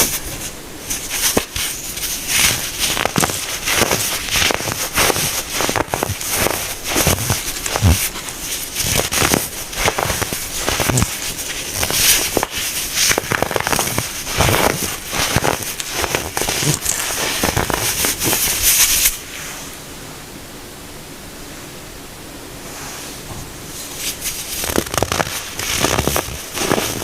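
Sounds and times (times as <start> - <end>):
baking soda crunching: 0.0 - 19.2, 24.1 - 27.0
steady hiss: 0.0 - 27.0.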